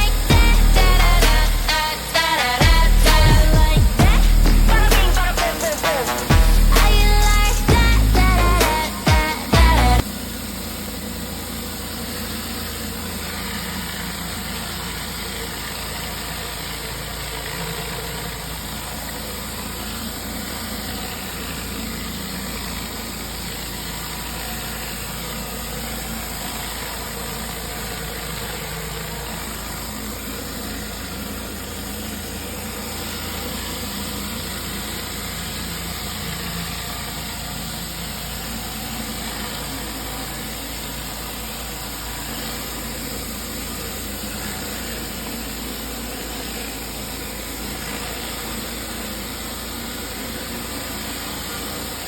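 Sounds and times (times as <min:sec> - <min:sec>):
pressure washer motor: 0:00.0 - 0:52.0.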